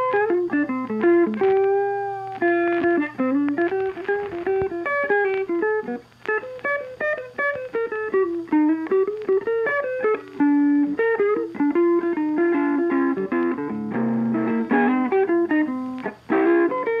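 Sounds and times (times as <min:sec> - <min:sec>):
guitar melody of plucked notes: 0:00.0 - 0:17.0.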